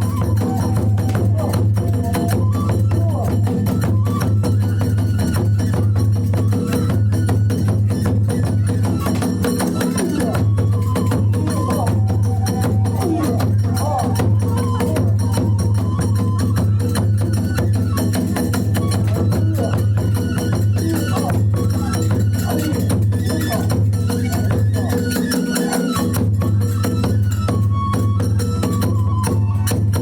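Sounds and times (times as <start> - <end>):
bamboo flute melody: 0.0 - 30.0
small hand cymbals: 0.0 - 30.0
taiko drum beats: 0.0 - 30.0.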